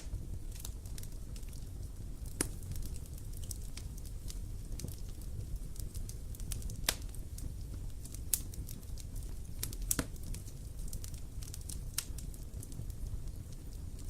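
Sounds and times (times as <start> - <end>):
bonfire crackling and popping: 0.0 - 14.0
low rumble of flames: 0.0 - 14.0.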